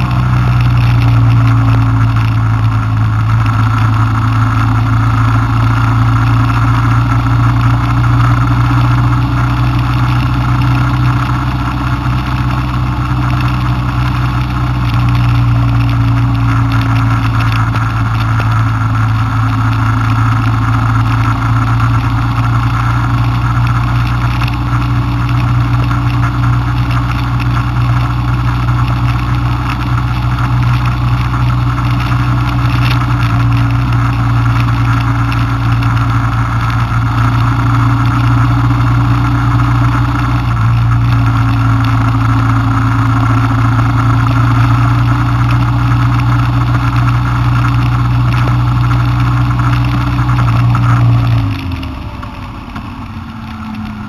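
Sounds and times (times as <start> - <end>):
car engine and tyre drone: 0.0 - 54.0.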